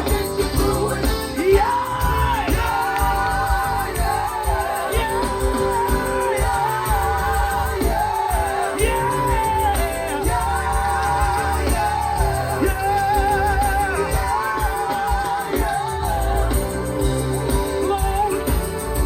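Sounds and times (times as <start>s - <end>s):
band playing gospel music: 0.0s - 19.0s.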